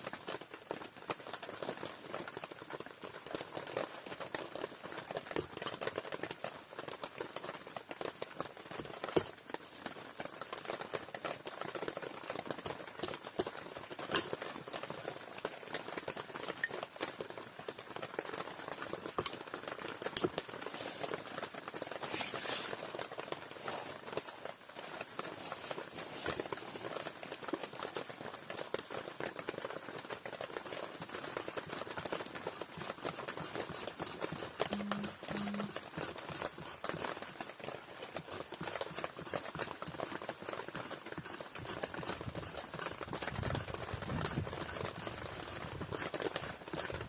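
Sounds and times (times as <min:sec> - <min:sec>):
wood fire crackling: 0:02.0 - 0:47.0.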